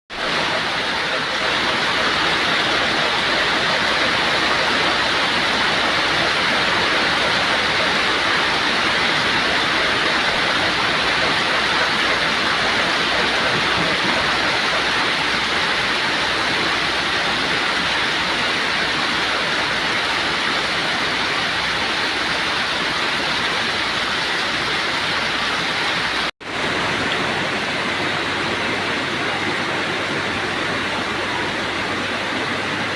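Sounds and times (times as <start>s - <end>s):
heavy rain hissing: 0.1s - 32.9s.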